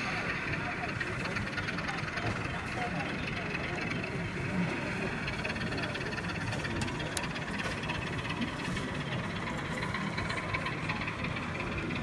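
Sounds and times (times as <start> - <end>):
model train hum: 0.0 - 12.0.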